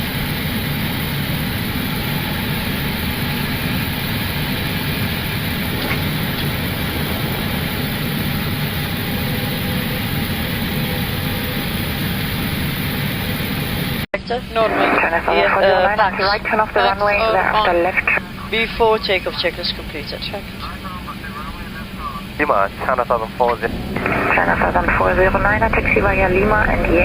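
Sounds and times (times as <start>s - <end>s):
cockpit engine and airflow rushing: 0.0s - 27.0s.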